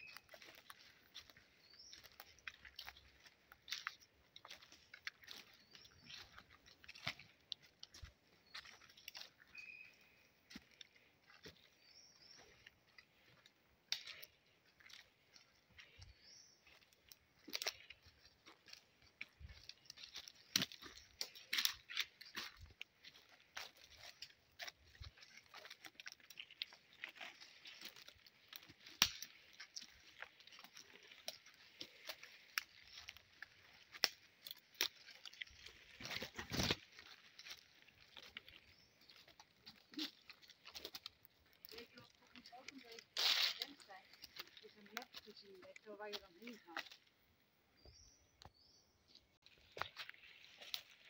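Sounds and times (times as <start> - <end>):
footsteps crunching through dry leaves: 0.0 - 47.1, 49.3 - 51.0.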